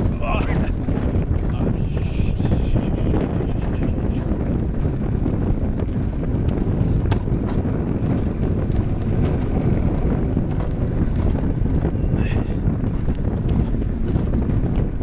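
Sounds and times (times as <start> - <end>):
coaster sledge rumbling on rails: 0.0 - 15.0
wind rushing over microphone: 0.0 - 15.0.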